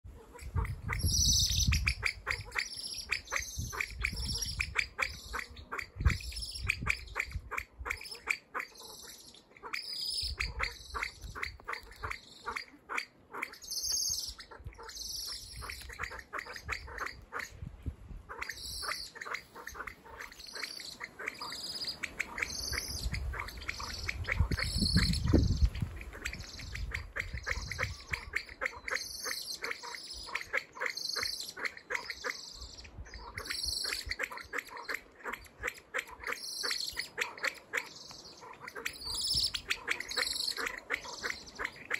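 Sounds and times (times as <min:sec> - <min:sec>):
pheasant clucking calls: 0:00.0 - 0:41.9.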